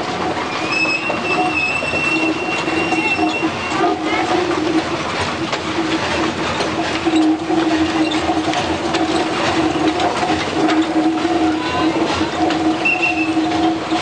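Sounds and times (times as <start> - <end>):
train wheels clattering and clanking: 0.0 - 14.0.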